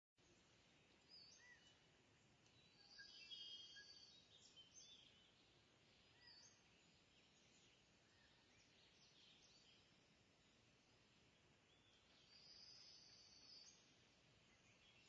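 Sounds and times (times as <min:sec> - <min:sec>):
faint birdsong: 0:00.2 - 0:15.0
quiet steady hiss: 0:00.2 - 0:15.0.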